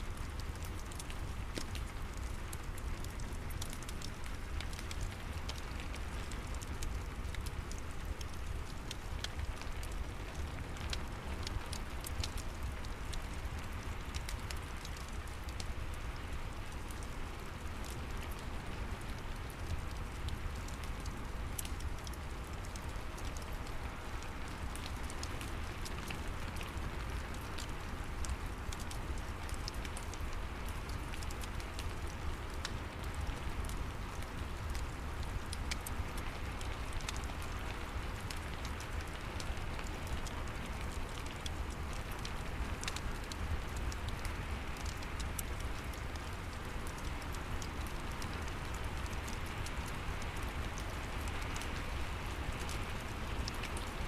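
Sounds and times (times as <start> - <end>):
steady rain: 0.0 - 54.0
wood fire crackling and popping: 0.0 - 54.0.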